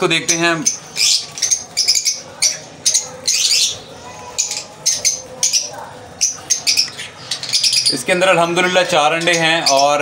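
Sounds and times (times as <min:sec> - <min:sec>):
lovebirds high-pitched chirps: 0:00.2 - 0:10.0.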